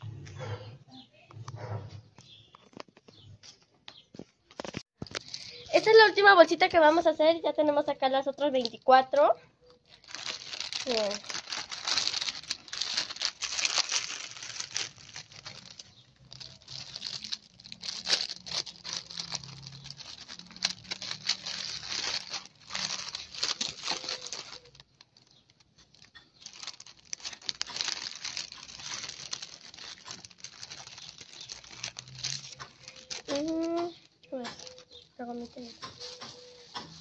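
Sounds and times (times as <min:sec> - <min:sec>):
cellophane bags crinkling: 0:04.6 - 0:07.1, 0:08.5 - 0:37.0
candy wrappers rustling: 0:04.6 - 0:37.0.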